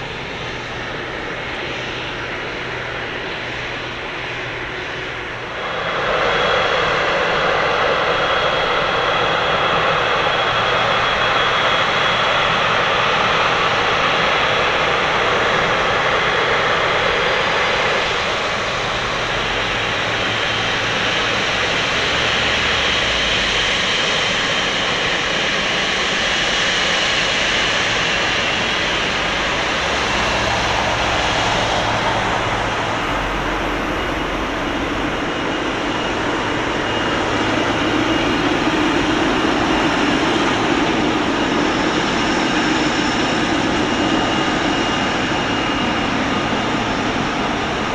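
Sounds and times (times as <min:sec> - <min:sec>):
jet engines roaring with whine: 0:00.0 - 0:47.9.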